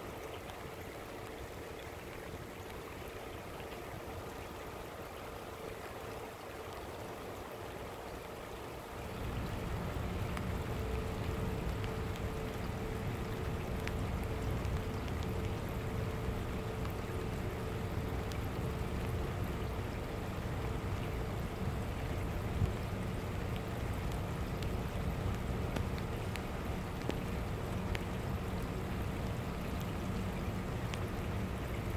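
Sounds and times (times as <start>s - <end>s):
faint steady hum: 0.0s - 31.9s
steady rain falling: 0.0s - 31.9s.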